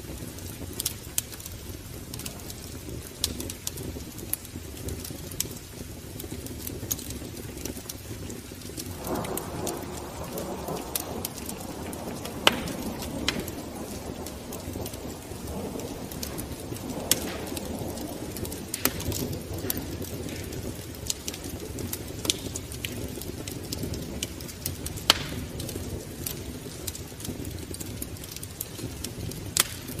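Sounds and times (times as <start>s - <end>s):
fire flame rushing: 0.0s - 30.0s
wood fire crackling and popping: 0.0s - 30.0s.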